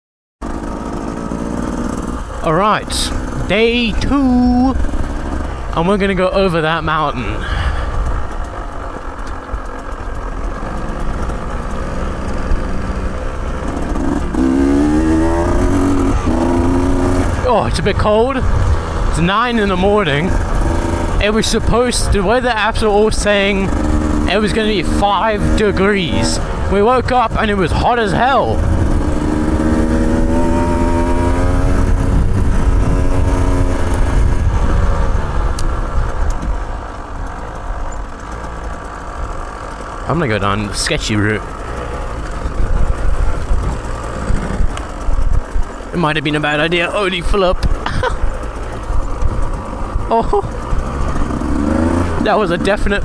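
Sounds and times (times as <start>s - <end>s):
motorcycle engine accelerating: 0.4s - 53.0s
heavy low rumble: 0.7s - 53.0s.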